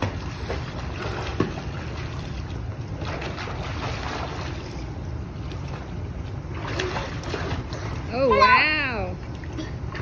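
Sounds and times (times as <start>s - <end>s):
water sloshing in a pool: 0.0s - 10.0s.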